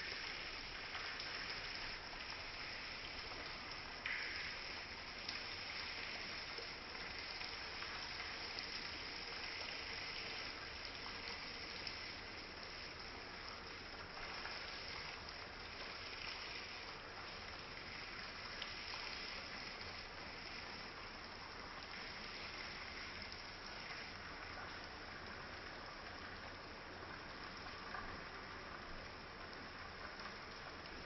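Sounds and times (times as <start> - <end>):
faint drip-like ticks: 0.0 - 31.0.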